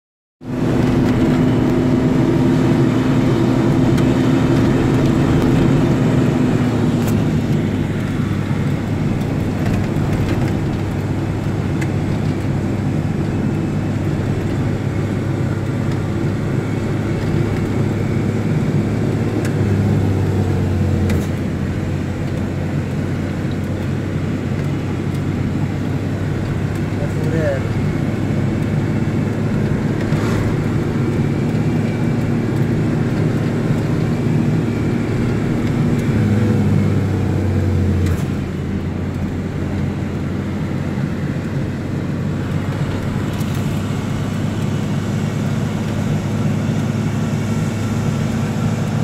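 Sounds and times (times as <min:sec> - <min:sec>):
tyre and road noise: 0:00.4 - 0:49.0
vehicle engine running: 0:00.4 - 0:49.0.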